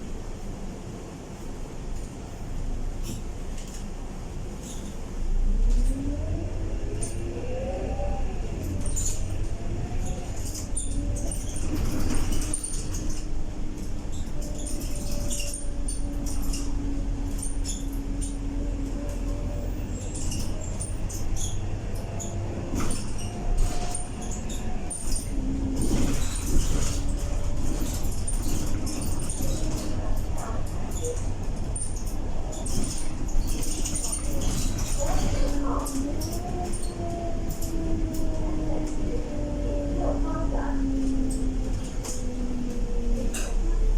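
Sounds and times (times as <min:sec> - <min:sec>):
bus drivetrain whine: 0:00.0 - 0:43.9
bus body rattles: 0:08.5 - 0:43.9.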